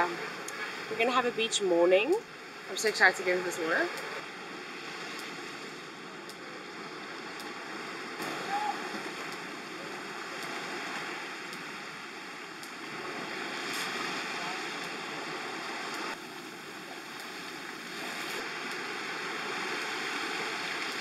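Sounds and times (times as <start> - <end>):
waves washing onto beach: 0.0 - 21.0.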